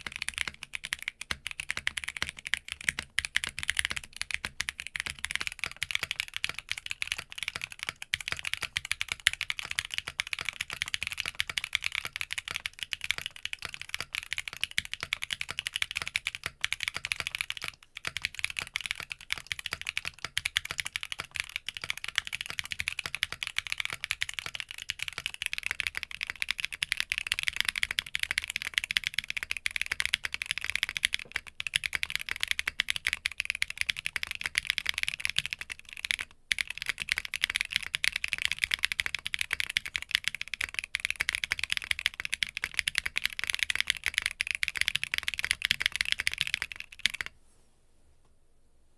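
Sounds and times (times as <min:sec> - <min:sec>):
fast typing on mechanical keyboard: 0:00.0 - 0:47.3.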